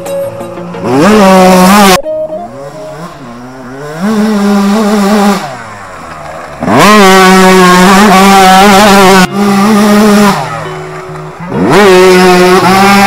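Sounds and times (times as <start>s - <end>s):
motocross bike engine revving: 0.6s - 13.0s.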